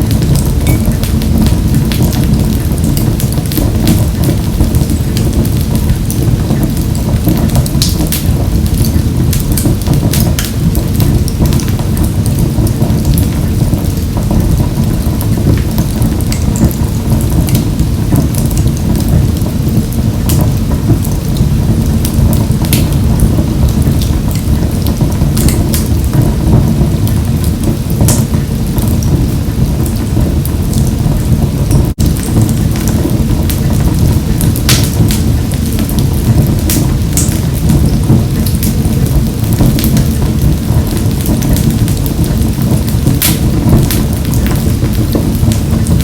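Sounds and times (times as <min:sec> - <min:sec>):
fire crackling and popping: 0:00.0 - 0:46.0
low rumble of flames: 0:00.0 - 0:46.0.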